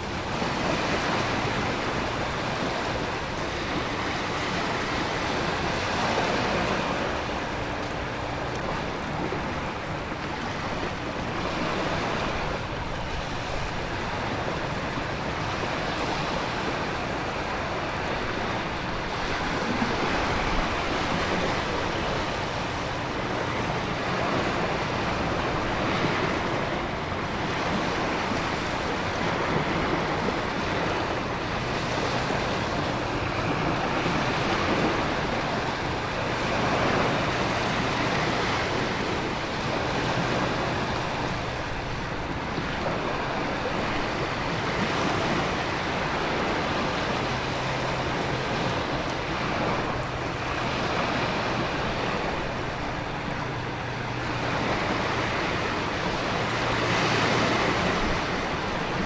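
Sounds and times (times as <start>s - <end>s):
heavy rain and wind: 0.0s - 59.0s
ocean surf: 0.0s - 59.0s.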